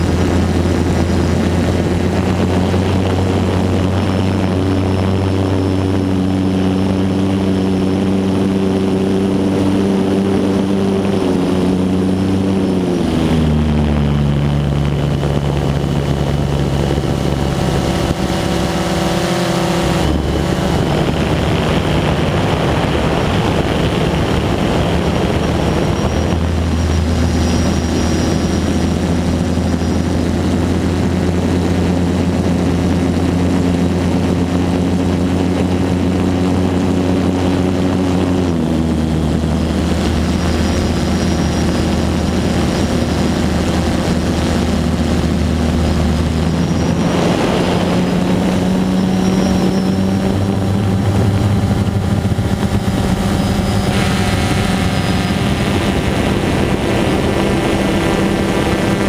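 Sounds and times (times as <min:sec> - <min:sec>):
drone propellers whirring: 0:00.0 - 0:59.0.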